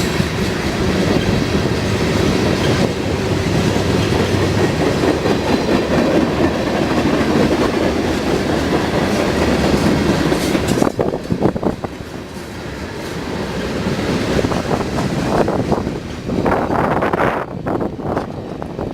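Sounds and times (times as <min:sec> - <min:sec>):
train wheels clattering: 0:00.0 - 0:17.2.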